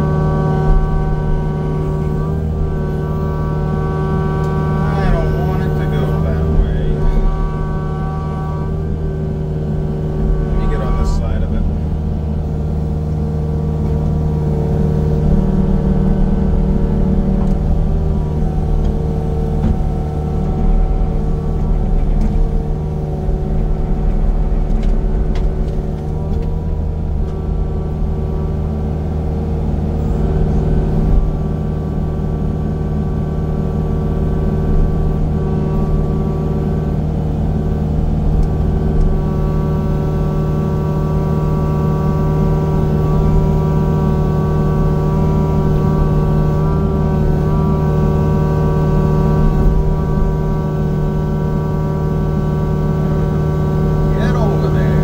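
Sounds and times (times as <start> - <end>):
machine engine droning: 0.0 - 55.0.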